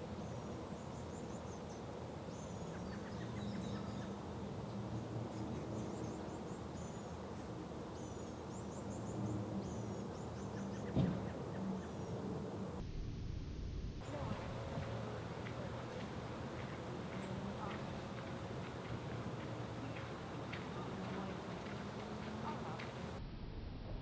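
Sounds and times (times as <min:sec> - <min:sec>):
faint songbird song: 0:00.0 - 0:12.8, 0:14.0 - 0:23.2.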